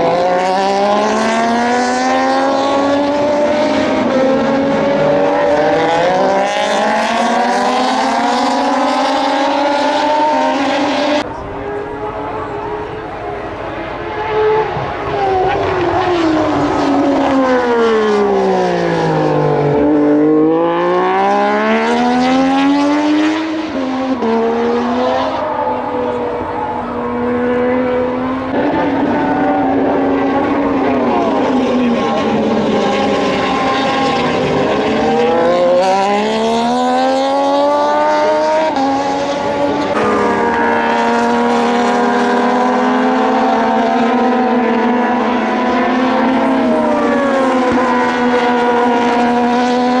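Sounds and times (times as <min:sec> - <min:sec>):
racing motorcycles passing: 0:00.0 - 0:50.0.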